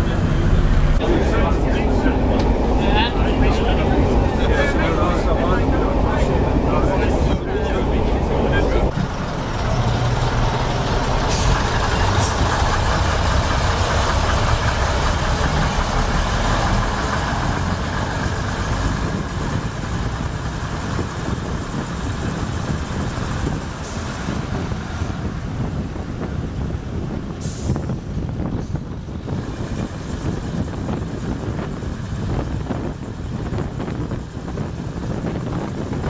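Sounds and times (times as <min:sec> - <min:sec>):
diesel railcar engines running: 0:00.0 - 0:36.0
wheel and rail noise: 0:00.0 - 0:36.0.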